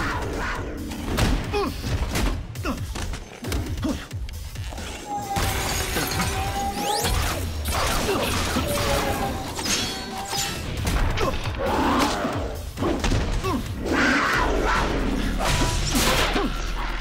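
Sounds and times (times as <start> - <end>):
dramatic action music: 0.0 - 17.0.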